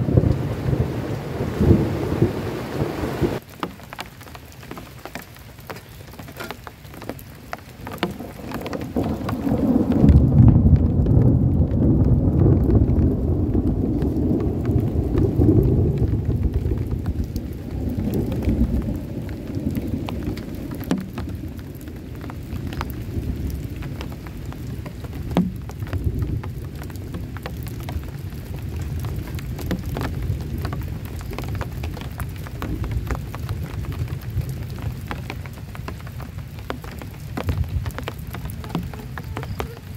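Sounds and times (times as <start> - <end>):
thunder rumbling: 0.0 - 3.4, 7.8 - 39.9
heavy rain on a tent: 0.0 - 39.9.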